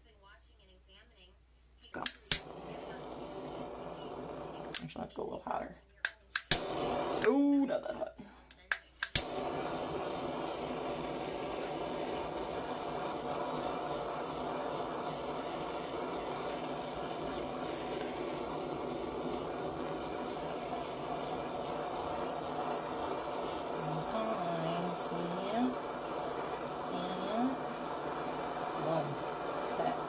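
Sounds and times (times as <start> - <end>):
torch ignition click: 2.0 - 5.0, 6.0 - 7.4, 8.5 - 30.0
torch flame hissing: 2.0 - 30.0.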